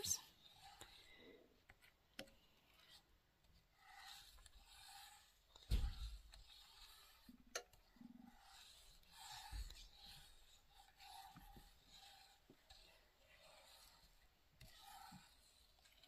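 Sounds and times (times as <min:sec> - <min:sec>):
spatula scraping pan: 0:00.0 - 0:01.2, 0:02.3 - 0:16.0.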